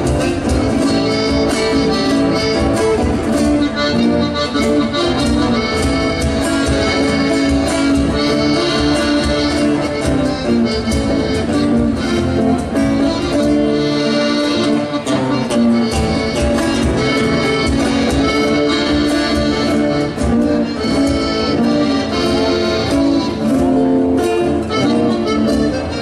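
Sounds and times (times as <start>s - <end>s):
accordion melody: 0.0s - 26.0s
folk band accompaniment: 0.0s - 26.0s.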